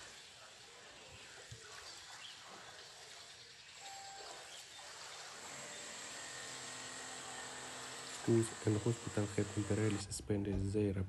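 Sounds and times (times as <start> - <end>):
thin steady high tone: 0.0 - 9.8
outdoor background noise: 0.0 - 11.0.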